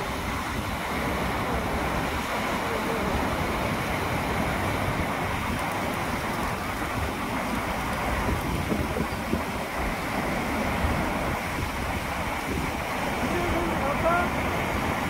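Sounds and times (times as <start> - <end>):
waterfall pouring over rocks: 0.0 - 15.0
wind gusts on microphone: 0.0 - 15.0.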